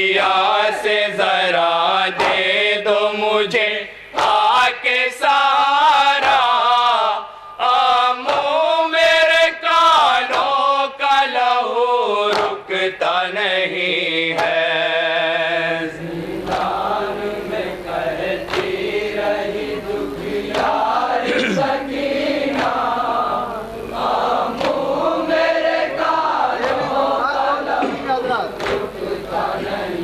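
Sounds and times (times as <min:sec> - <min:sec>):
men chanting in chorus: 0:00.0 - 0:30.0.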